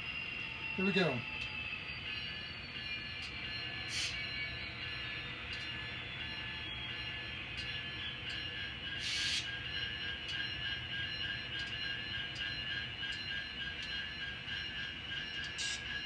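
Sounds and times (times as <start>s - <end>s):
model train whine: 0.0s - 16.0s.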